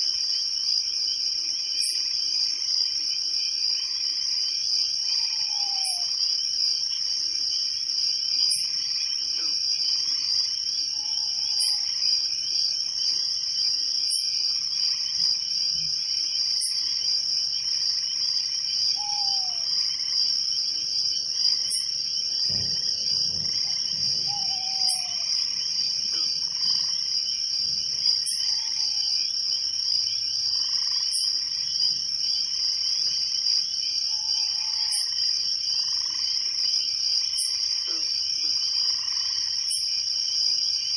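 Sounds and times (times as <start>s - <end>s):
crickets trilling: 0.0s - 40.9s
frogs calling: 0.0s - 40.9s.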